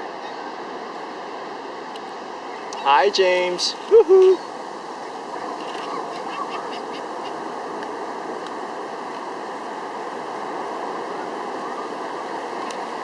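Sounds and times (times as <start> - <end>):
ocean surf on a beach: 0.0 - 13.0.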